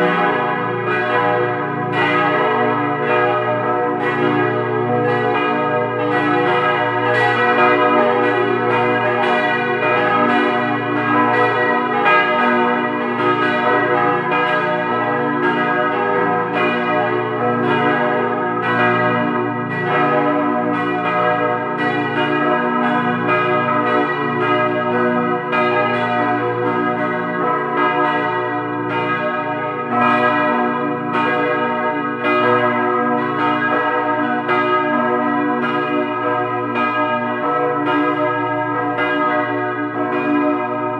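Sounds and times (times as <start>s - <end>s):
large church bells ringing: 0.0s - 40.9s.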